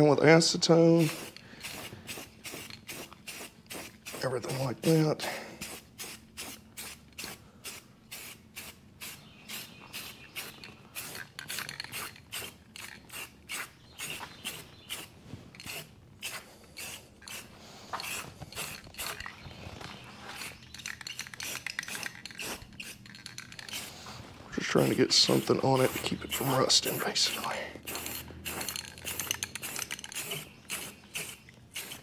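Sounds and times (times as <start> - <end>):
spray can rattling: 1.0 - 5.0, 5.6 - 32.0.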